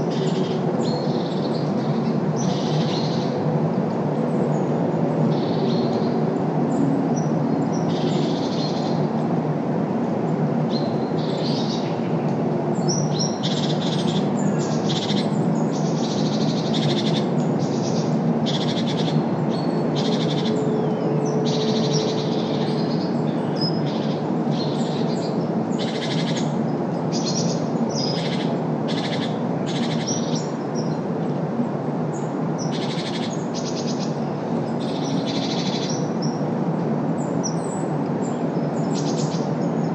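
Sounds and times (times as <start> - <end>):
city traffic rumble: 0.0 - 39.9
songbirds chirping: 0.0 - 39.9.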